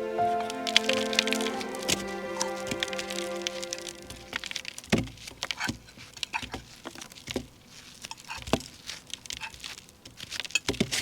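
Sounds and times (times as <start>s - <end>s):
rustling of food handling: 0.3s - 11.0s.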